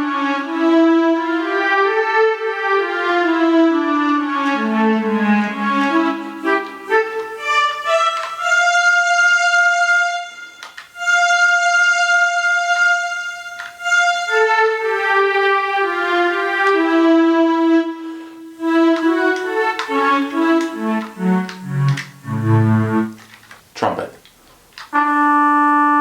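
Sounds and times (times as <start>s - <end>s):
electronic wind instrument strings: 0.0s - 23.6s, 24.8s - 26.0s.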